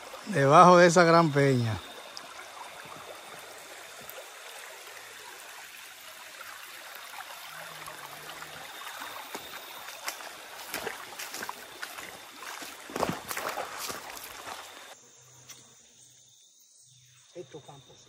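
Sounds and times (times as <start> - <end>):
small river trickling: 0.0 - 15.0.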